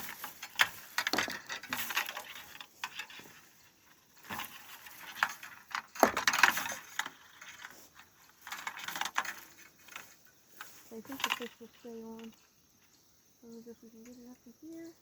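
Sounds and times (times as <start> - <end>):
fishing gear rattling and clicking: 0.0 - 12.4.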